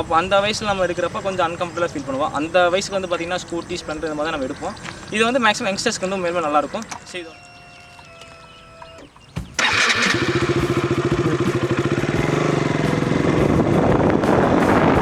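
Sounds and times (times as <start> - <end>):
motorcycle engine starting and idling: 0.0 - 15.0.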